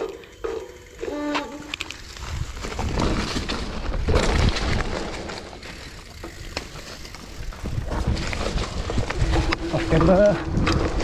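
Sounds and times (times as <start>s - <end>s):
bike clattering over bumps: 0.0s - 11.0s
bike tyres on dirt trail: 0.0s - 11.0s.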